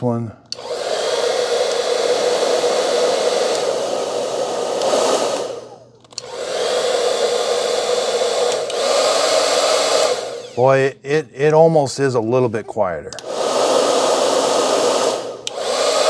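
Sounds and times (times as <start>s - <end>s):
hair dryer running: 0.0s - 10.9s, 13.1s - 16.0s.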